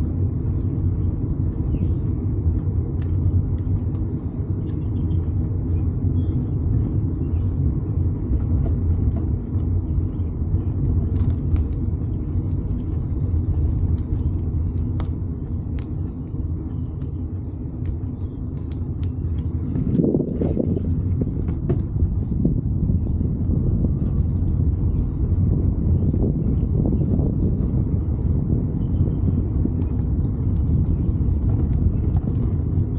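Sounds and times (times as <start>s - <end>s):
road noise: 0.0s - 32.9s
wind on microphone: 0.0s - 32.9s.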